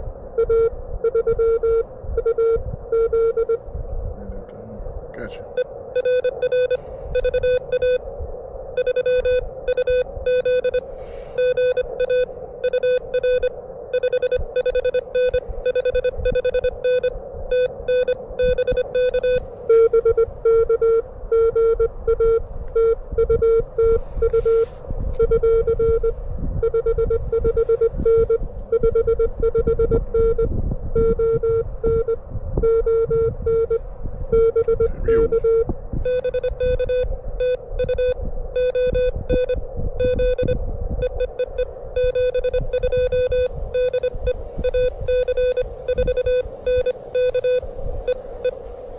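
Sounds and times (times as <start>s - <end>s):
wind rumble on microphone: 0.0s - 48.9s
morse code beeps: 0.4s - 3.6s, 5.5s - 8.0s, 8.8s - 48.6s.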